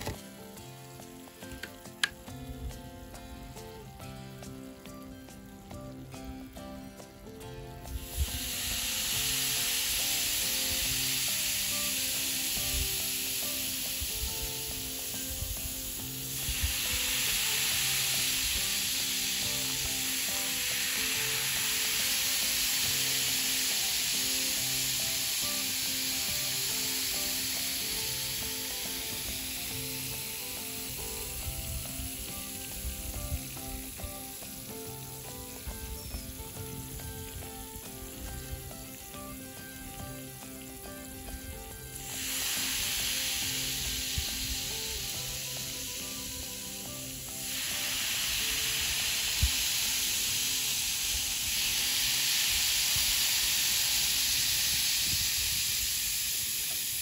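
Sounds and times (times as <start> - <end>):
baking soda fizzing: 0.0 - 57.0
vinegar pouring: 0.0 - 57.0.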